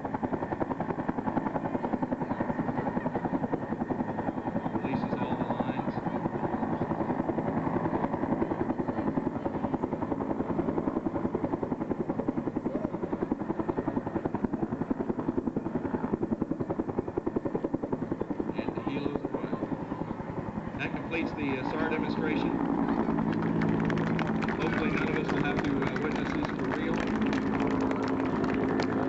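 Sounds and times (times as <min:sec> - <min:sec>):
helicopter rotor beating: 0:00.0 - 0:29.0.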